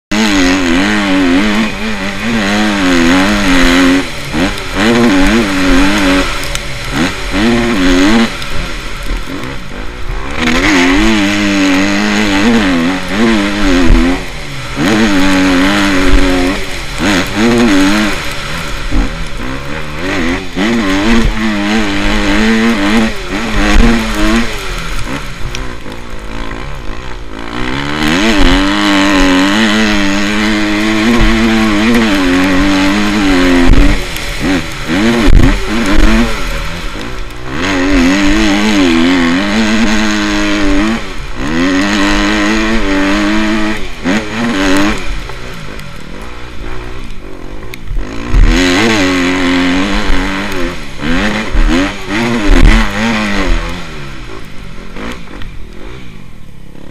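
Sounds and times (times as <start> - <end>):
motocross motorcycles revving: 0.0 - 56.9.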